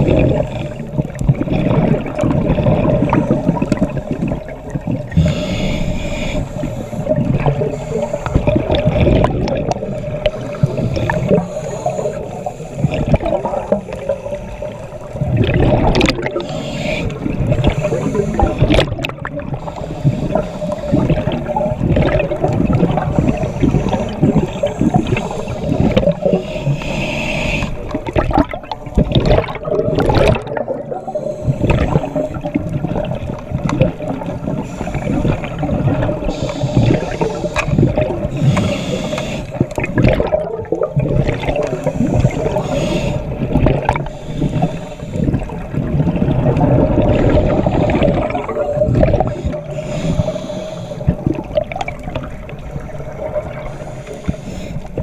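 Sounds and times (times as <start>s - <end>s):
underwater bubbling of exhaled air: 0.0s - 55.0s.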